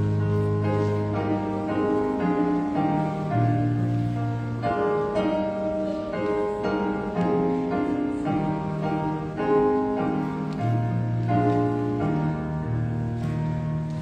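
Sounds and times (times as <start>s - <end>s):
keyboard playing slow chords: 0.0s - 14.0s.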